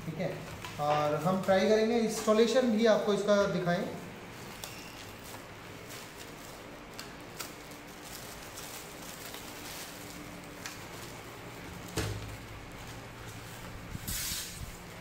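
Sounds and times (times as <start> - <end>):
plastic wrapping rustling: 0.0 - 15.0.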